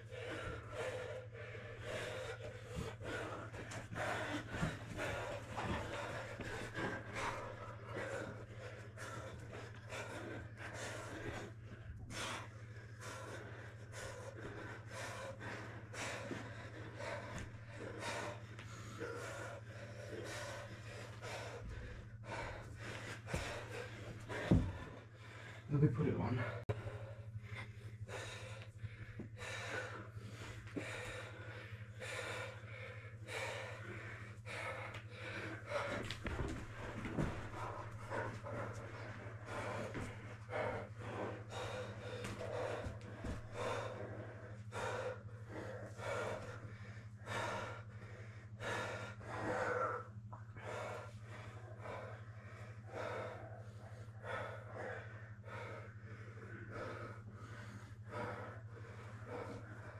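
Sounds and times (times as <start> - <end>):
people breathing hard and gasping: 0.0 - 59.9
steady low hum: 0.0 - 59.9.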